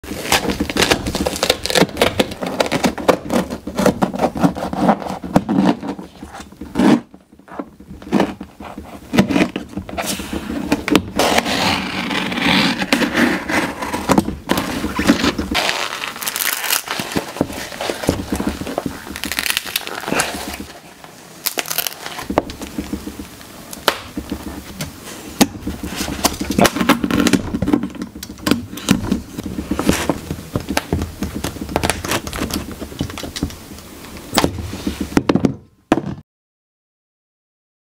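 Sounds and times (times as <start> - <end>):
fabric crinkling and tearing: 0.0 - 35.2.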